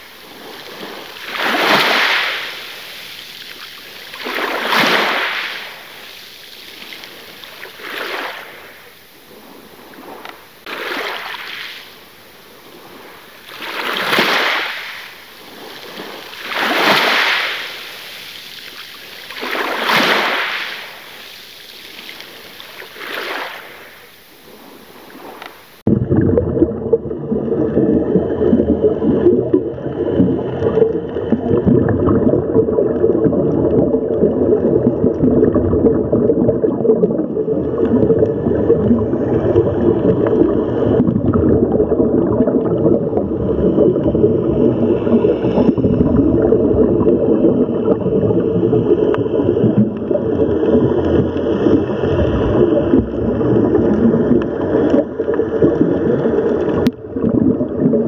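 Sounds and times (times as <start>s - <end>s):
muffled underwater rush: 0.0s - 58.0s
ocean waves washing in: 0.0s - 58.0s.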